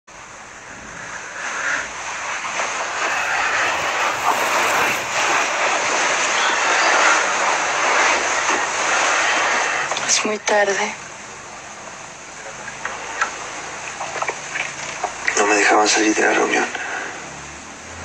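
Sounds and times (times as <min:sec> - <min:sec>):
steady rushing noise: 0:00.1 - 0:18.0.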